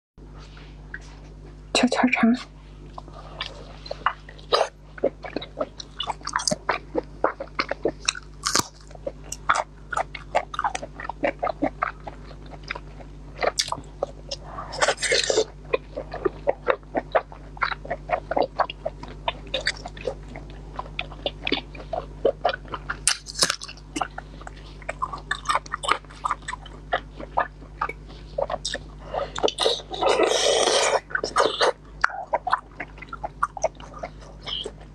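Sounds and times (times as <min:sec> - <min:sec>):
wet chewing and mouth smacks: 0:02.9 - 0:34.9.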